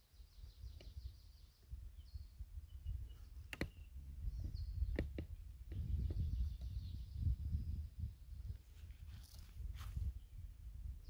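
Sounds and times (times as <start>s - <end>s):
wind buffeting microphone: 0.3s - 11.0s.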